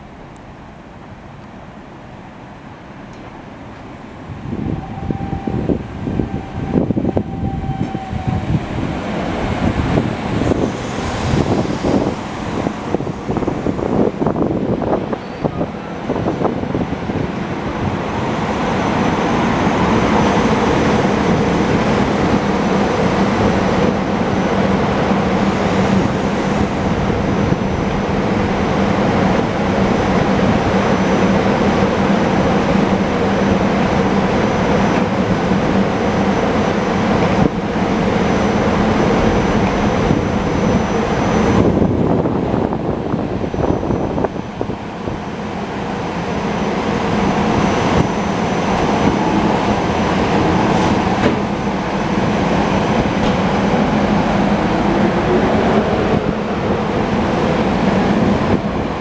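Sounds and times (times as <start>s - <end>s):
electric train rolling past: 0.0s - 59.0s.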